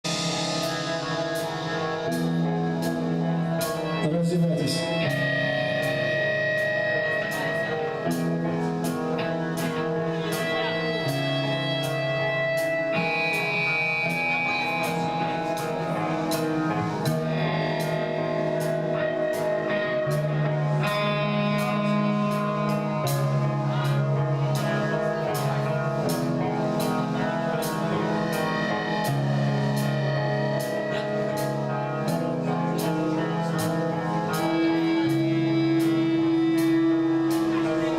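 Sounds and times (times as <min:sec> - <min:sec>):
guitar chords over a beat: 0:00.0 - 0:37.9.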